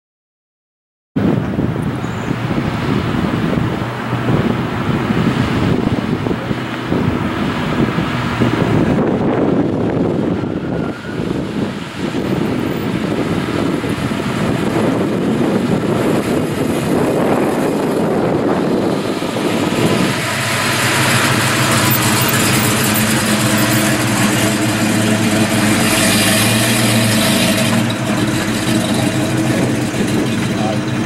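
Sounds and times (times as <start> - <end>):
car engine rolling past: 1.7 - 31.0.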